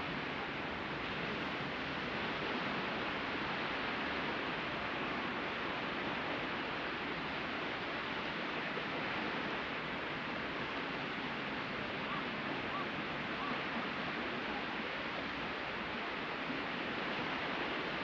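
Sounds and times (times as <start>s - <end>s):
sea surf washing on beach: 0.0s - 18.0s.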